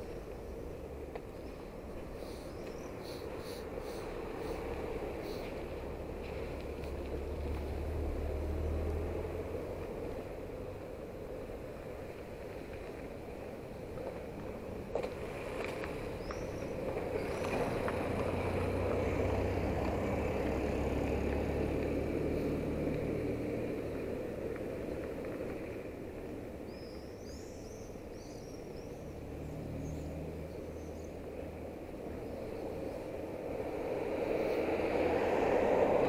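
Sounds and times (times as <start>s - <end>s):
low vehicle engine hum: 0.0s - 36.0s.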